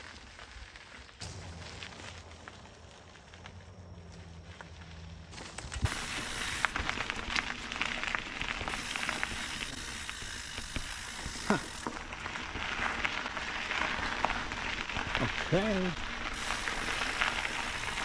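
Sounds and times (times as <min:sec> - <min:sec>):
bike tyres crunching on gravel: 0:00.0 - 0:18.0.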